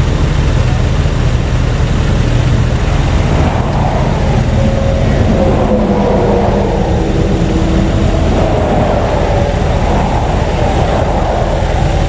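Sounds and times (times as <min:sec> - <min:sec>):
heavy vehicle engine rumble: 0:00.0 - 0:12.0.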